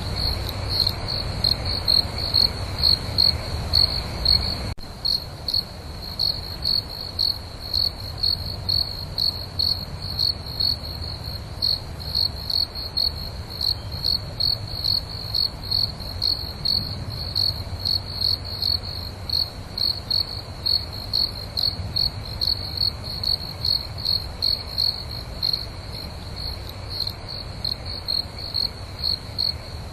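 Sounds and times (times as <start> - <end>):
cricket chirping: 0.0 - 29.9.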